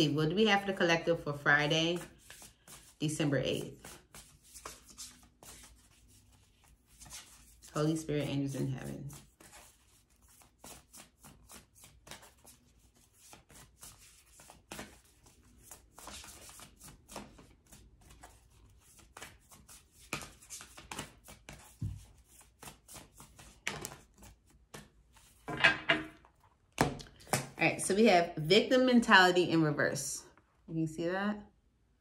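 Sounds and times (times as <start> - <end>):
cards being shuffled: 2.0 - 27.6.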